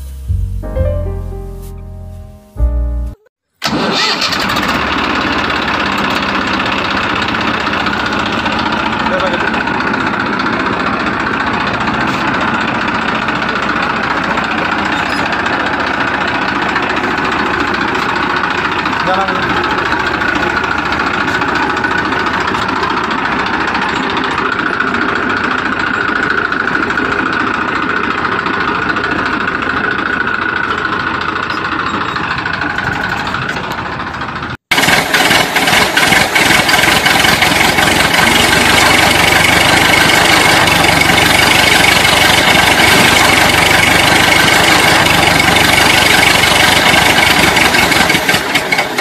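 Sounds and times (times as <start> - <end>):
engine sound: 3.6 - 49.0.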